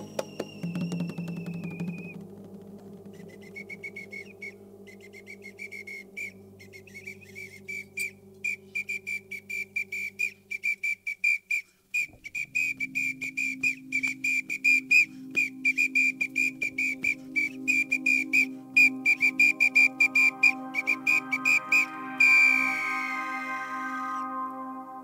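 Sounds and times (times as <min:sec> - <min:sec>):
low drone: 0:00.0 - 0:10.9, 0:12.4 - 0:25.0
whistle blasts: 0:00.0 - 0:25.0.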